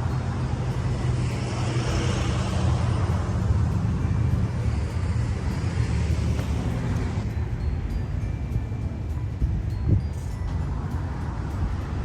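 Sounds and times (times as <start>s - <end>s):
cars passing: 0.0s - 12.0s
low engine drone: 0.0s - 12.0s.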